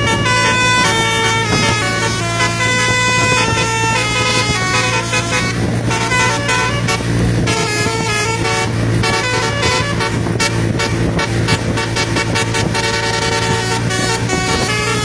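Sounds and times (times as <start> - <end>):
musical bus horn melody: 0.0 - 15.0.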